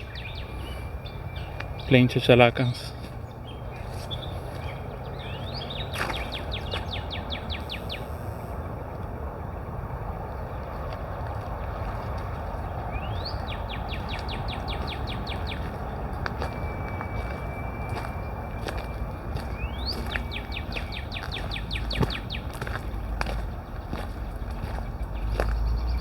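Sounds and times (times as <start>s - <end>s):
low outdoor rumble: 0.0s - 26.0s
songbird singing: 0.0s - 26.0s.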